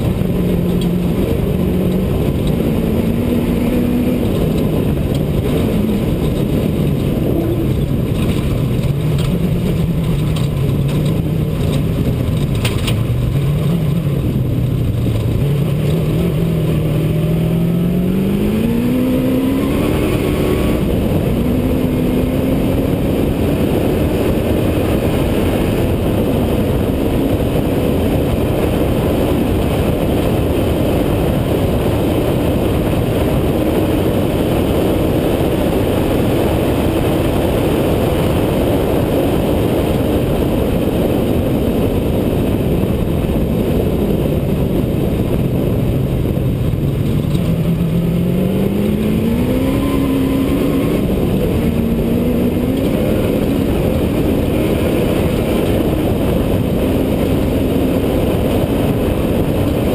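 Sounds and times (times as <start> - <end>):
road and wind noise: 0.0 - 59.9
truck engine accelerating: 0.0 - 59.9.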